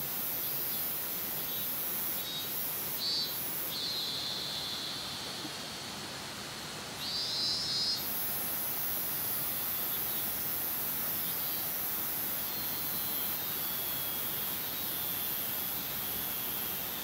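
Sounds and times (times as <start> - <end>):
cicada droning: 0.0 - 17.0
high-pitched steady hiss: 0.0 - 17.0.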